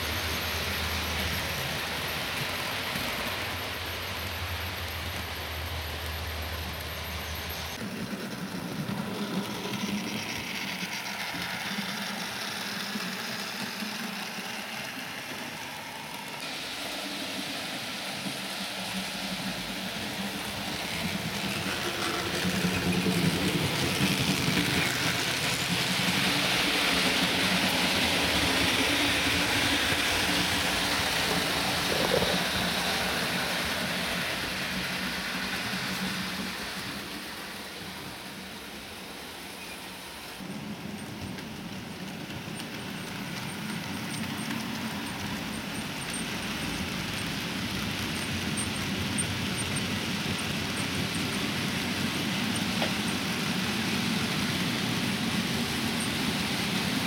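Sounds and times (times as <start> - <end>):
model trains whirring on track: 0.0 - 57.0.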